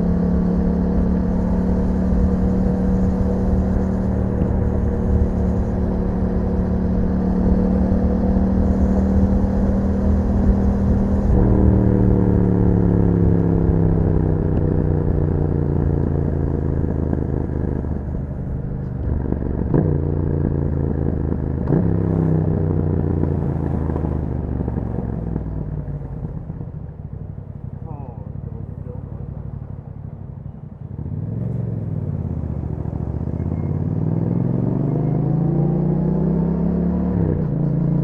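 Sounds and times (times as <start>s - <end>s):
motorcycle engine: 0.0s - 38.0s.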